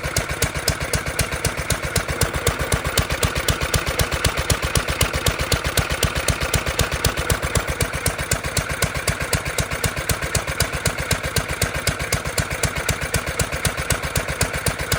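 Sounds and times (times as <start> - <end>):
single-cylinder engine running: 0.0 - 14.9.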